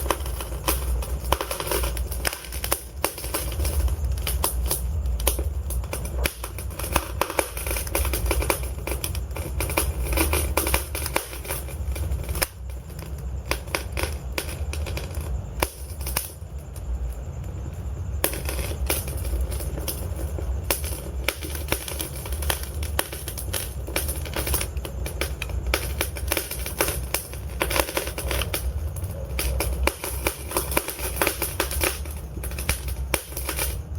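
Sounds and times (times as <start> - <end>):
low rumble of burning logs: 0.0 - 33.9
wood fire crackling and popping: 0.0 - 33.9.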